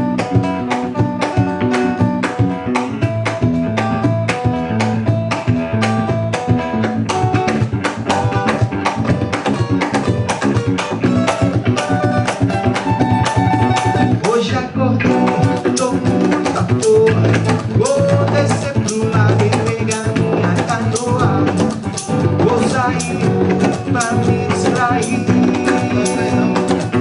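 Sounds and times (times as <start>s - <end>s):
band playing instrumental: 0.0s - 27.0s
drums and percussion beat: 0.0s - 27.0s.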